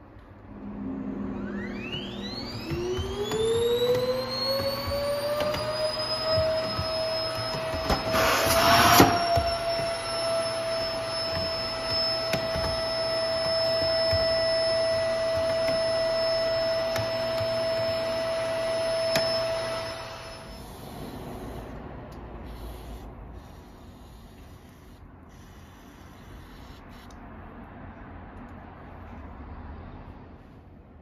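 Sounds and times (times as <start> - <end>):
vacuum cleaner whining: 0.7 - 26.6.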